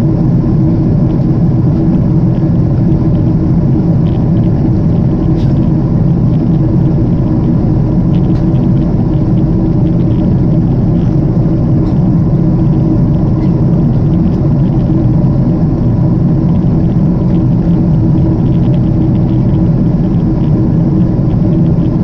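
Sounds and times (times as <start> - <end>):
faint steady hum: 0.0 - 22.0
jet engines and rushing air: 0.0 - 22.0.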